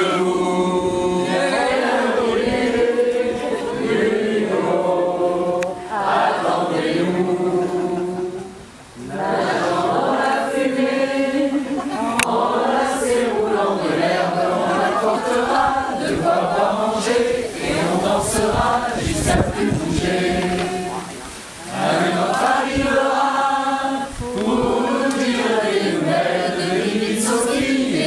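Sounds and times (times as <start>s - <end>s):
mixed choir singing: 0.0s - 28.0s.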